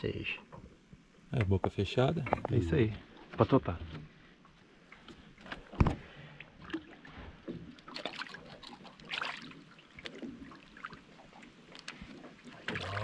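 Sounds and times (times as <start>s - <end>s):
water splashing around a boat: 2.5s - 13.0s.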